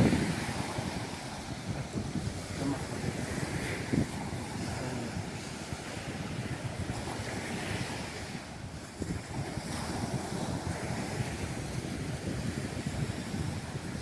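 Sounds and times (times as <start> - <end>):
ocean surf washing ashore: 0.0 - 14.0
wind buffeting microphone: 0.0 - 14.0.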